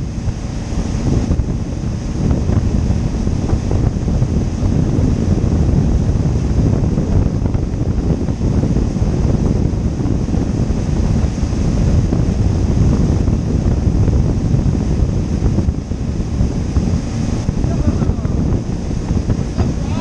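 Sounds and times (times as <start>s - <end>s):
boat wake churning: 0.0s - 20.0s
wind rumble on microphone: 0.0s - 20.0s.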